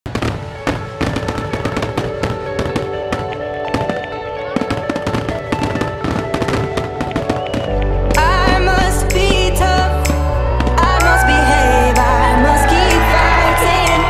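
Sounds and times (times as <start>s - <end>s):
fireworks bursting and crackling: 0.1s - 12.0s
music playing: 0.1s - 14.0s.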